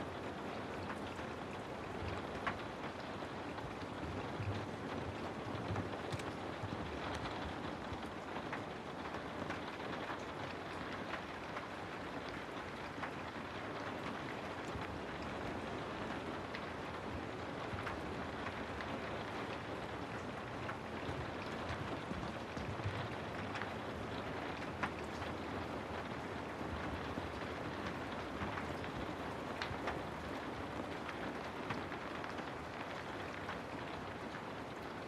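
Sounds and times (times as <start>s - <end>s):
steady rain on a house: 0.0s - 35.0s.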